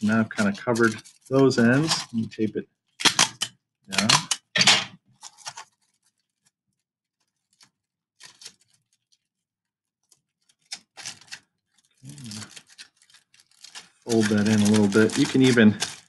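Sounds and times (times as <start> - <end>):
aluminium foil crinkling: 0.0 - 4.5, 5.1 - 9.4, 10.0 - 16.0.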